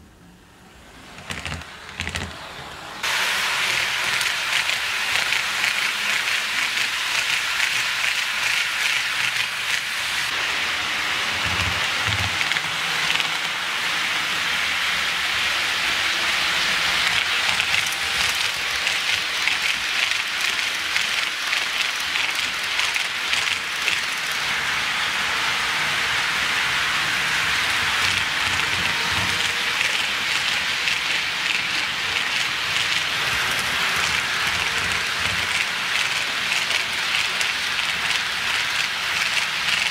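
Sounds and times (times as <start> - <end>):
model train wheels rattling: 1.0 - 10.4, 11.4 - 13.5, 14.4 - 39.9.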